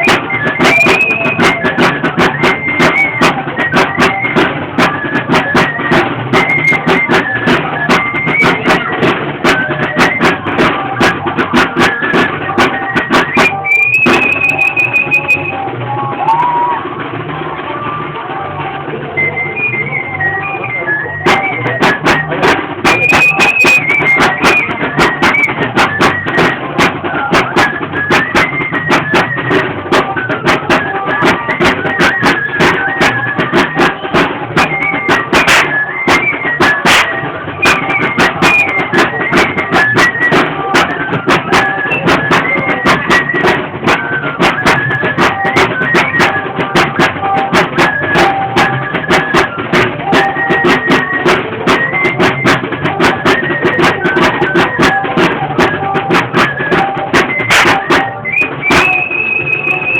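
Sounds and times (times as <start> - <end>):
flute melody: 0.0 - 59.9
steady drumbeat: 0.0 - 59.9.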